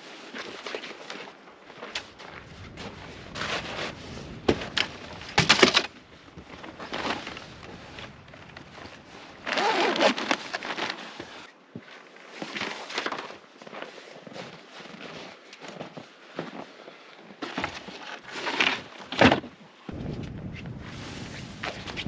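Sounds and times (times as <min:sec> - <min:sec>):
gear rustling and clattering: 0:00.3 - 0:19.4.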